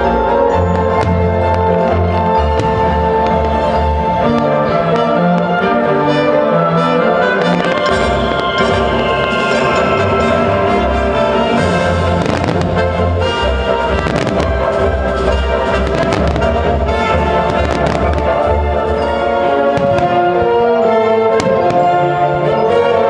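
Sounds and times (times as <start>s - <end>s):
orchestral music: 0.0s - 23.0s.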